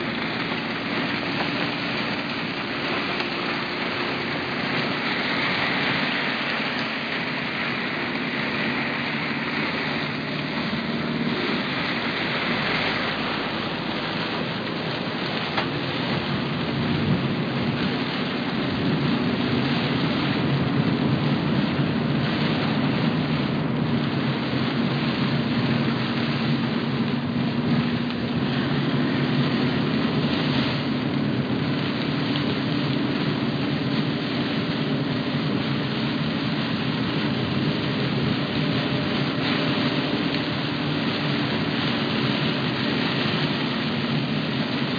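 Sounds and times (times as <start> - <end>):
heavy rain on a car: 0.0 - 44.9
tyres hissing on wet road: 0.0 - 44.9.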